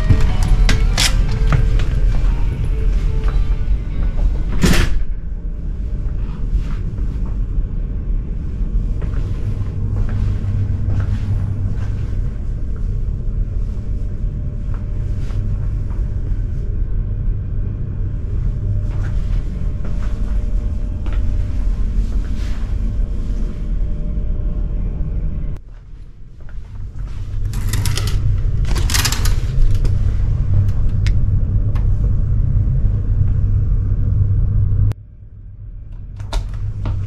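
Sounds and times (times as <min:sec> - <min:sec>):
ship machinery rumble: 0:00.0 - 0:37.0.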